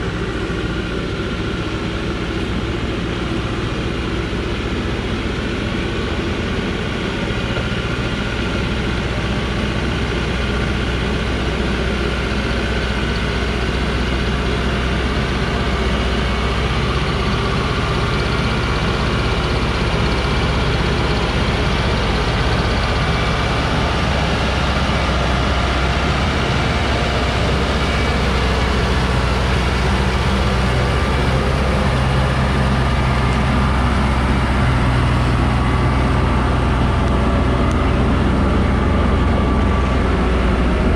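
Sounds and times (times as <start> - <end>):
truck diesel engine under load: 0.0 - 40.9.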